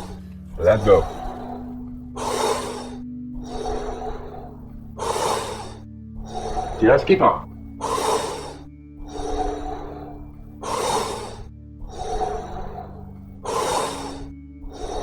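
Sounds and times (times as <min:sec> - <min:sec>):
deep mouth breathing: 0:00.0 - 0:15.0
soft music drone: 0:00.0 - 0:15.0.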